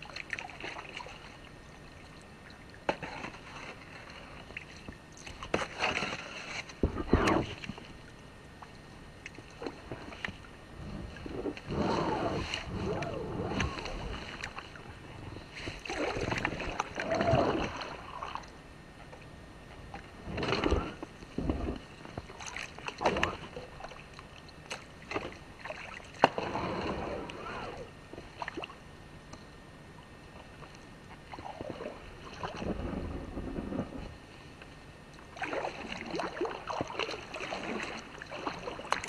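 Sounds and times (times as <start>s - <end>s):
paddle splashing water: 0.0s - 8.1s, 9.3s - 18.6s, 19.9s - 28.8s, 31.2s - 33.7s, 35.2s - 39.0s.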